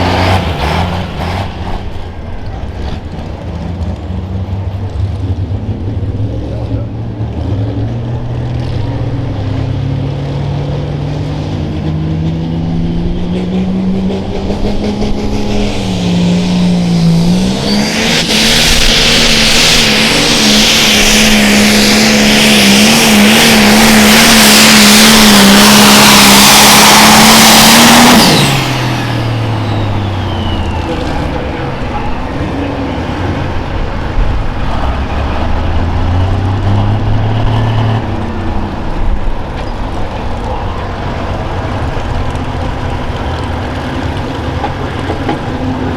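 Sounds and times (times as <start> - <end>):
diesel tractor engine revving: 0.0 - 45.9.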